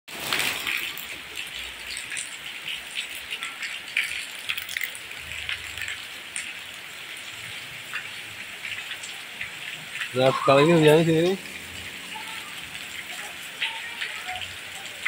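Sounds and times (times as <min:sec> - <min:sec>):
rain falling: 0:00.1 - 0:15.0
raindrops ticking and splashing: 0:00.1 - 0:15.0.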